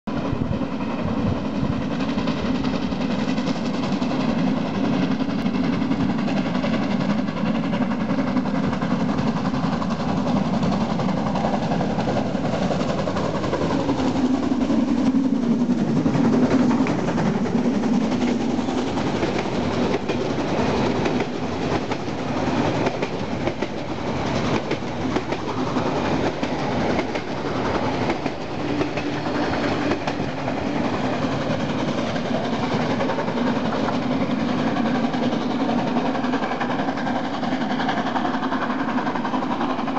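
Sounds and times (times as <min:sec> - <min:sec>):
steam locomotive passing: 0:00.1 - 0:39.9
coach wheels clattering over rail joints: 0:01.5 - 0:39.9.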